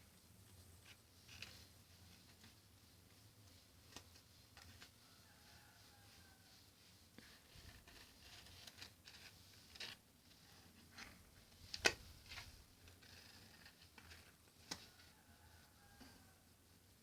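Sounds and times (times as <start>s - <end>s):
rustling and scraping handling: 0.0s - 17.0s.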